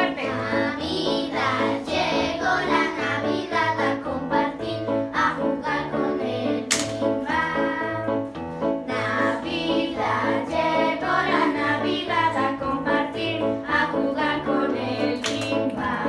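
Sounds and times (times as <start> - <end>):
children singing together: 0.0 - 16.0.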